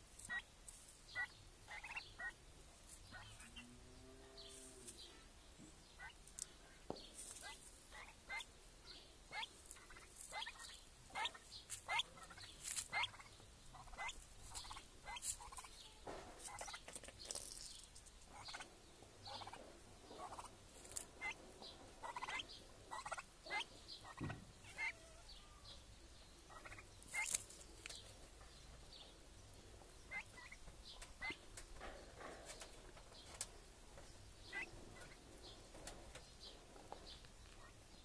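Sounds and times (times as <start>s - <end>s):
poultry calling: 0.2s - 0.5s, 1.1s - 17.0s, 18.3s - 37.8s.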